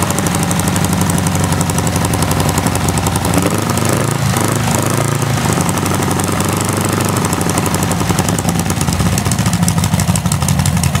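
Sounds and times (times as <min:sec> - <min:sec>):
small engine running loudly: 0:00.0 - 0:11.0.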